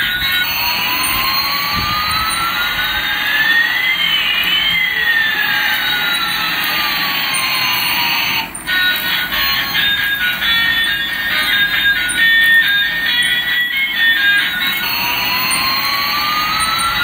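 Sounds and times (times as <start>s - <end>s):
toy jet engine sound effect: 0.0s - 17.0s.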